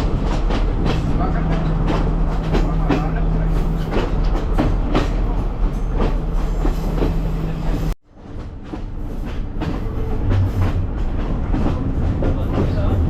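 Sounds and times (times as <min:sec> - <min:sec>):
train rumble and hum: 0:00.0 - 0:13.0
wheels clacking over rail joints: 0:00.0 - 0:13.0.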